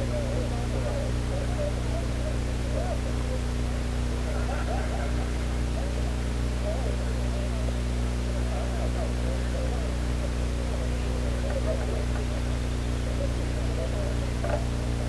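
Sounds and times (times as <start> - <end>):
faint distant voices: 0.0 - 15.0
steady low hum: 0.0 - 15.0.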